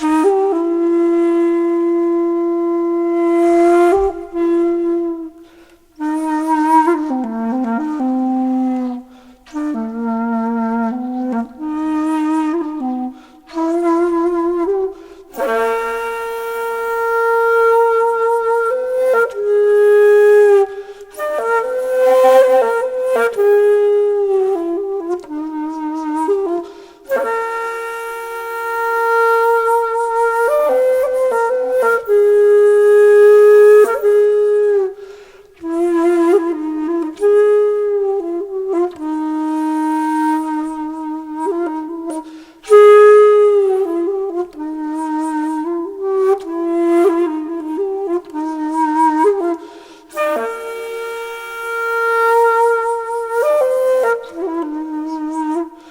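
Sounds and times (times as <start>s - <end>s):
solo flute melody: 0.0s - 55.9s.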